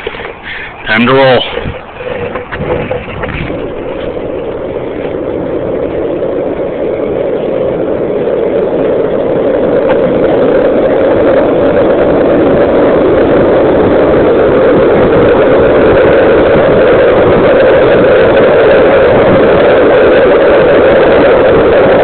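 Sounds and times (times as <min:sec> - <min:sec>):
longboard wheels rolling on pavement: 0:00.0 - 0:22.0
wind noise on microphone: 0:00.0 - 0:22.0.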